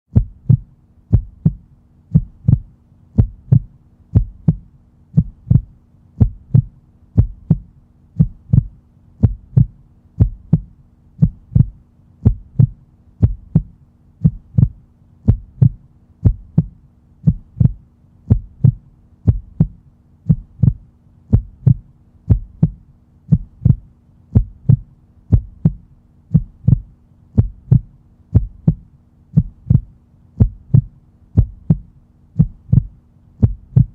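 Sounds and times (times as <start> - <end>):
faint steady hum: 0.1 - 33.9
heartbeat thumps: 0.1 - 33.9.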